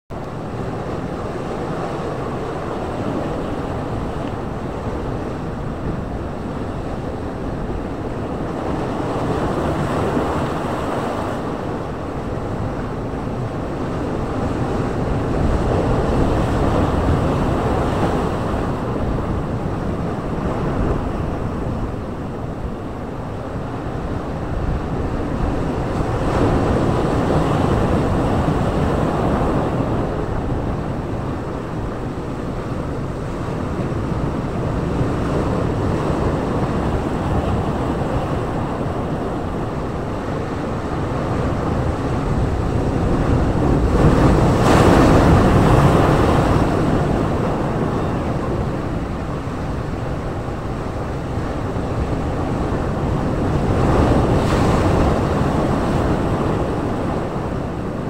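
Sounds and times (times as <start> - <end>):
ocean waves crashing on rocks: 0.4 - 58.0.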